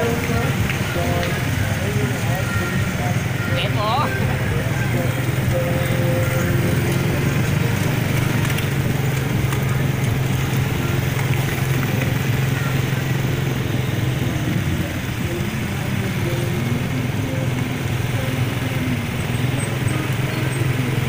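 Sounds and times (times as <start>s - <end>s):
engine drone in traffic: 0.0s - 21.0s
road noise: 0.0s - 21.0s.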